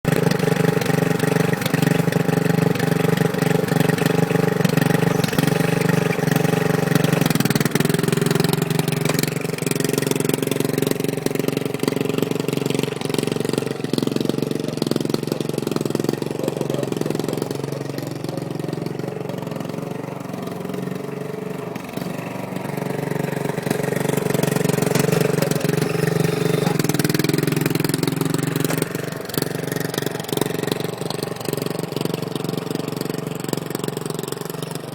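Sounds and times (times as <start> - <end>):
riding lawn mower engine: 0.0 - 34.9.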